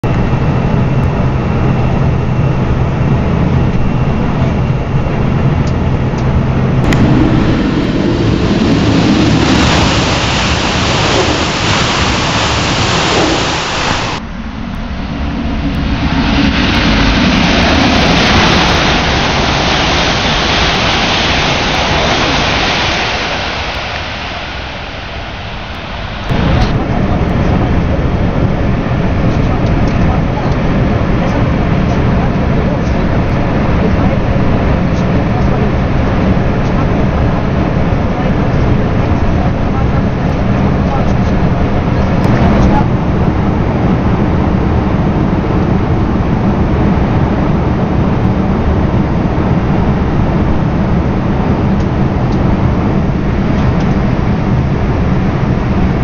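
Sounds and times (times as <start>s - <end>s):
high-speed train passing: 0.0s - 56.0s.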